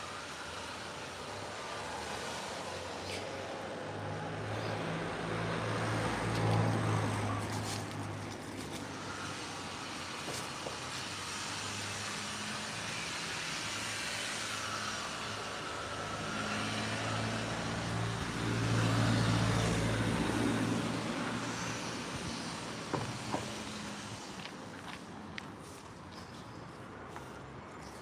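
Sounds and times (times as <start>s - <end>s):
vehicle engine hum: 0.0s - 26.2s
road noise: 0.0s - 28.0s.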